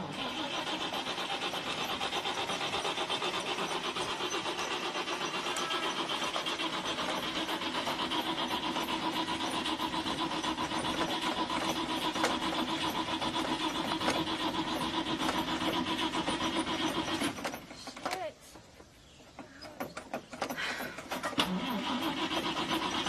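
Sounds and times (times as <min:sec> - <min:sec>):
car starter motor cranking: 0:00.0 - 0:17.8, 0:19.8 - 0:23.0.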